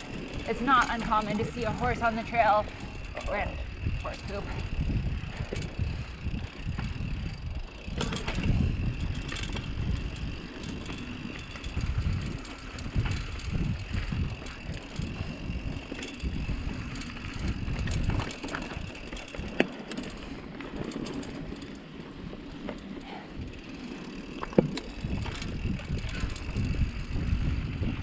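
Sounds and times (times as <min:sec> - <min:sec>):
bike rattling: 0:00.0 - 0:28.0
bike tyres crunching over dirt: 0:00.0 - 0:28.0.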